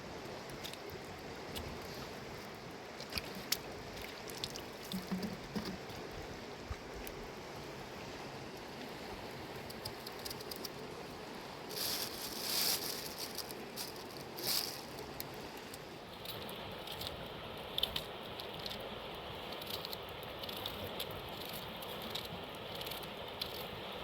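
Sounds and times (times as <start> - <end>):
mountain river running: 0.0 - 24.0.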